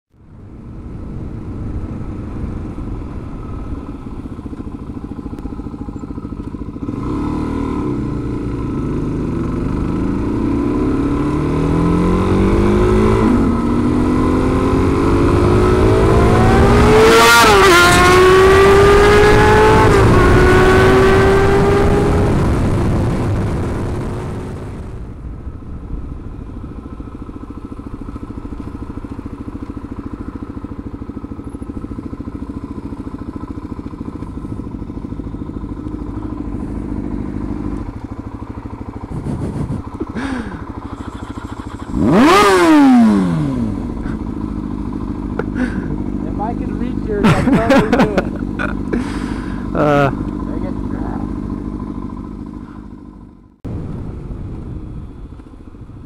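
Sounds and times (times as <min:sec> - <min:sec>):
motorcycle accelerating: 0:00.2 - 0:56.0
motorcycle engines running: 0:00.2 - 0:56.0.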